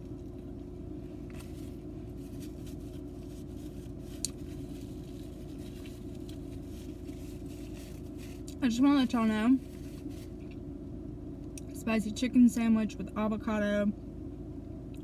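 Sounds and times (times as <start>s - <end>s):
low hum in car cabin: 0.0s - 15.0s.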